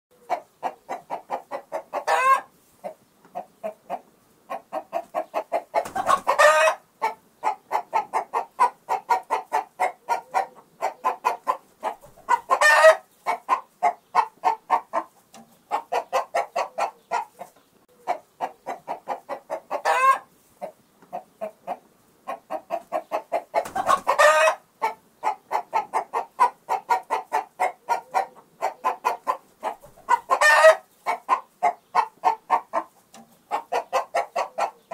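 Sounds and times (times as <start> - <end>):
chickens clucking: 0.1 - 34.9
chicken squawk: 0.2 - 15.1, 15.7 - 34.9.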